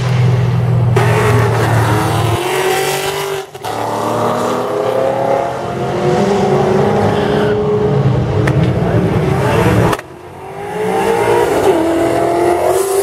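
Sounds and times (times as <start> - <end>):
race cars accelerating: 0.0 - 13.0.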